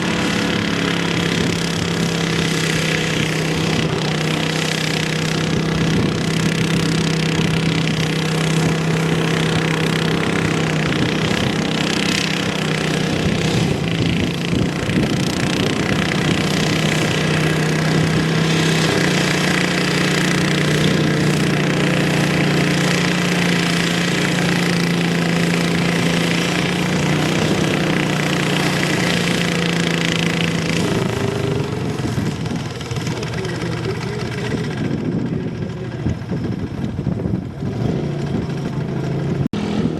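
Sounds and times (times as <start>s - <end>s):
tractor engine revving under load: 0.0s - 39.9s.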